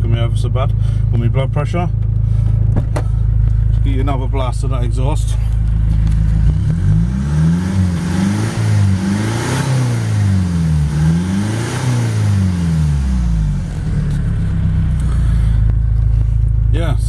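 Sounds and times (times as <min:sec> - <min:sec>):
diesel engine revving: 0:02.2 - 0:17.0.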